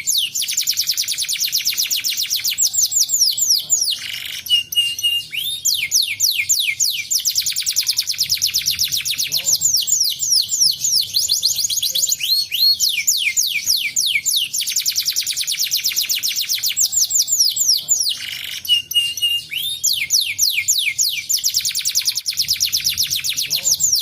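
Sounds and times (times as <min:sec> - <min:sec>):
canary singing in fast trills: 0:00.0 - 0:24.0.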